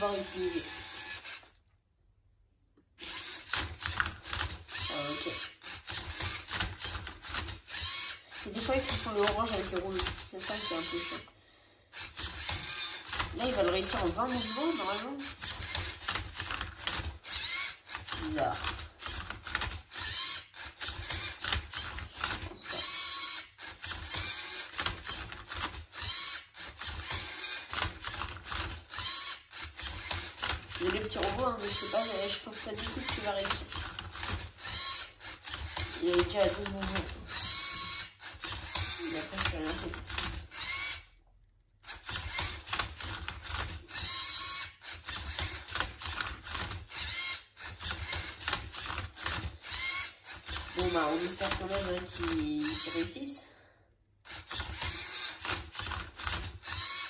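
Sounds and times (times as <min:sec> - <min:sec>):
robot motors whirring: 0:00.0 - 0:01.6, 0:03.0 - 0:11.3, 0:11.9 - 0:41.1, 0:41.8 - 0:53.2, 0:54.3 - 0:57.0.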